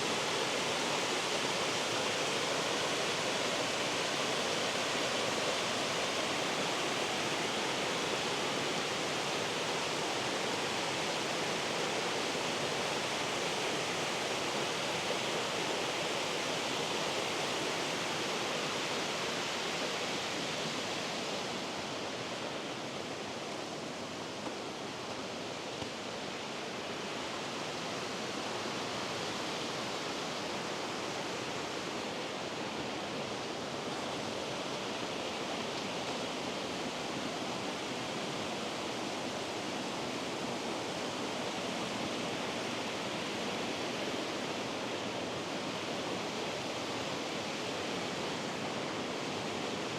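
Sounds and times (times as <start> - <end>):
rushing water: 0.0 - 49.9.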